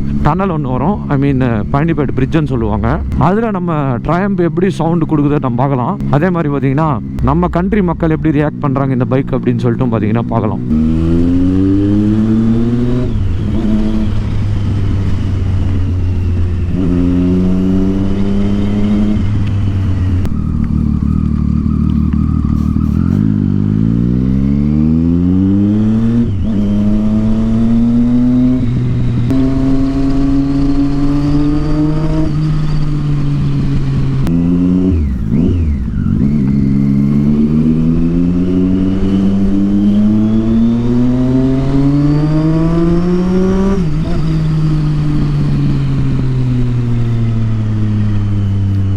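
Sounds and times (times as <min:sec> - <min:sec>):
engine throttle blips: 0:00.0 - 0:48.9
motorcycle engine accelerating: 0:00.0 - 0:48.9.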